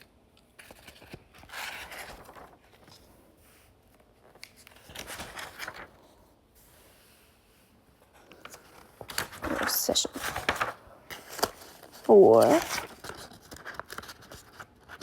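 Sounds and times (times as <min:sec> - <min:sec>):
paper pages rustling: 0:00.4 - 0:06.2, 0:08.0 - 0:15.0.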